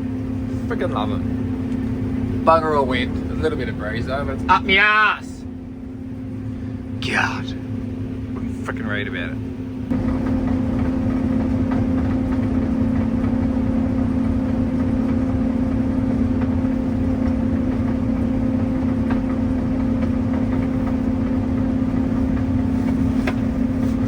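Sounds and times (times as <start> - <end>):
combine harvester drone: 0.0 - 24.0.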